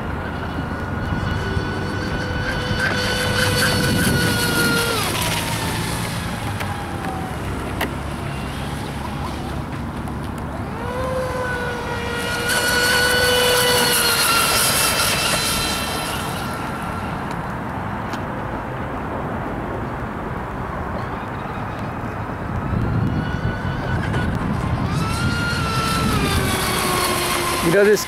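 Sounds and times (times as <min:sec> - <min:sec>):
model boat motor whining: 0:00.0 - 0:17.8, 0:22.4 - 0:28.0.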